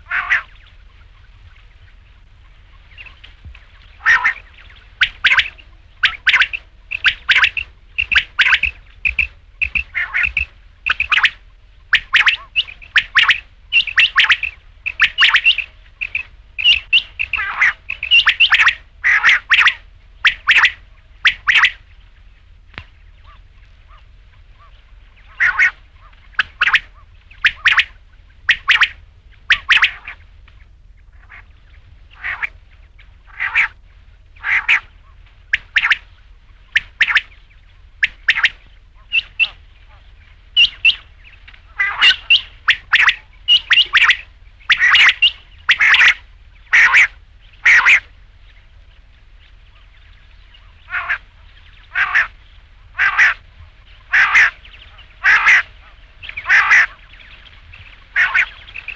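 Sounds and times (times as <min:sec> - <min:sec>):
quail calling: 0:00.0 - 0:49.0, 0:49.6 - 0:58.9.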